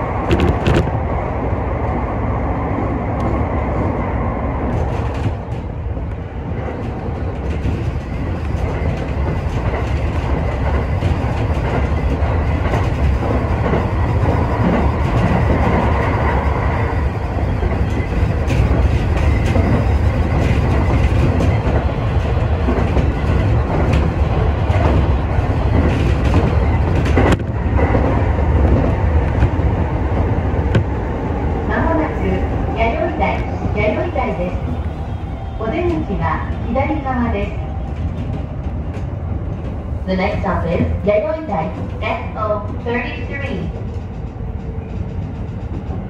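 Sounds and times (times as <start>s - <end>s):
rail clicks: 0.0s - 1.2s, 3.0s - 46.0s
train wheels rumbling on rail: 0.0s - 46.0s.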